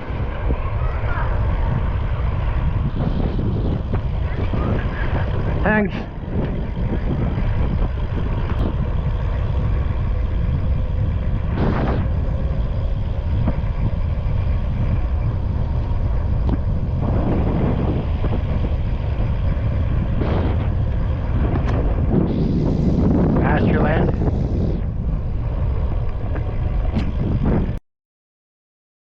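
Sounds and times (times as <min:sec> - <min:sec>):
road noise rumble: 0:00.0 - 0:27.8
wind buffeting microphone: 0:00.0 - 0:27.8.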